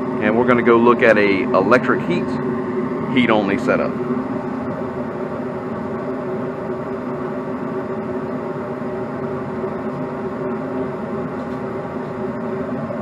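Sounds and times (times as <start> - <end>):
furnace motor humming: 0.0 - 13.0.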